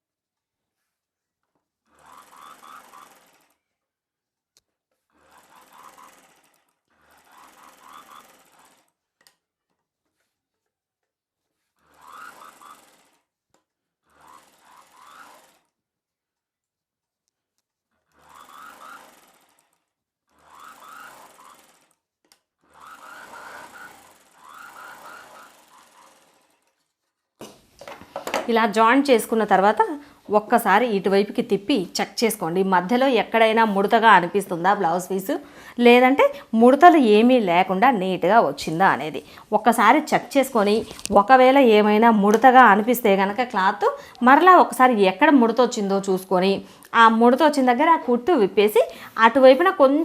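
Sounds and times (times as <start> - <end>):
sewing machine stitching: 1.4 - 3.9, 4.9 - 9.9, 11.4 - 15.8, 17.8 - 37.2, 37.9 - 50.0.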